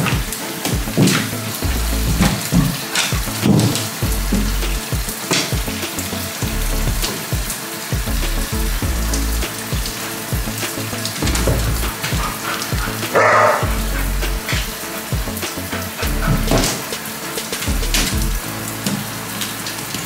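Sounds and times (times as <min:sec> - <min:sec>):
background music: 0:00.0 - 0:20.0
shower spray hissing: 0:00.0 - 0:20.0.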